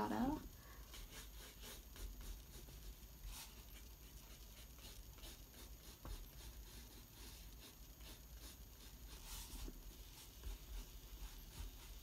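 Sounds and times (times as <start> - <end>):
pencil scratching on paper: 0.8 - 12.0.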